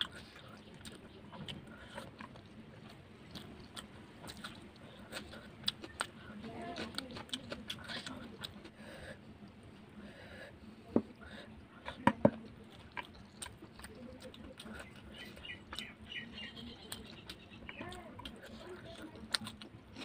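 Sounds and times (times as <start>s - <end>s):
wet chewing and lip smacks: 0.0s - 8.8s, 12.4s - 20.0s.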